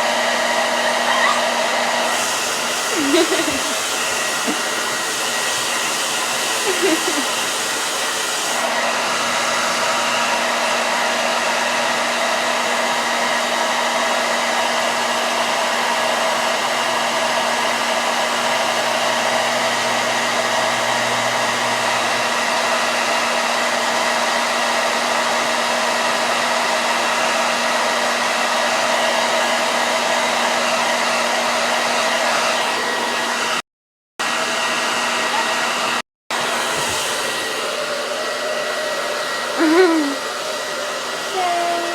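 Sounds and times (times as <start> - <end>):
hair dryer running: 0.0 - 33.6, 34.2 - 41.9.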